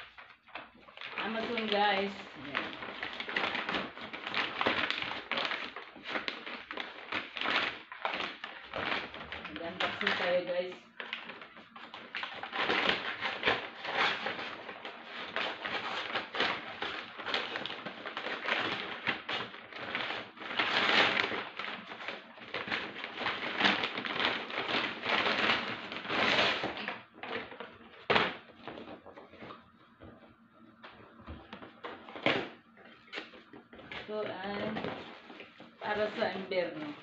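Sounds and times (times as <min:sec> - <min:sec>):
paper bag crinkling and rustling: 0:00.0 - 0:37.0.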